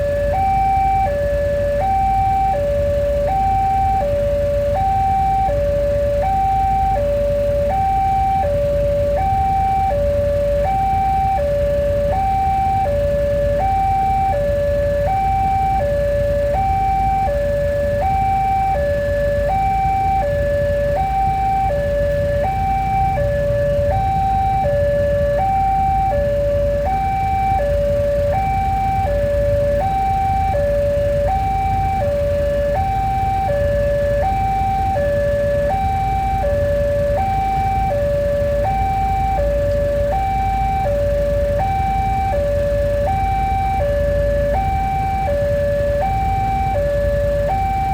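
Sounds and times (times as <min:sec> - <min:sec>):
level crossing alarm two-tone: 0:00.0 - 0:47.9.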